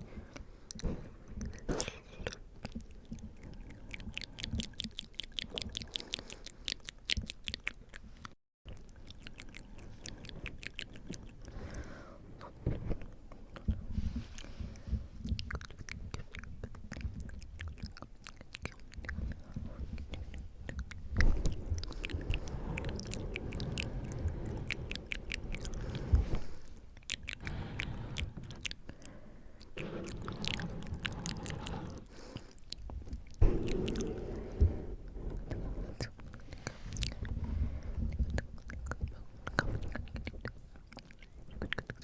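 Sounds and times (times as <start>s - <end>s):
tongue and lip clicks: 0.7s - 11.6s, 13.3s - 34.4s, 35.3s - 42.0s.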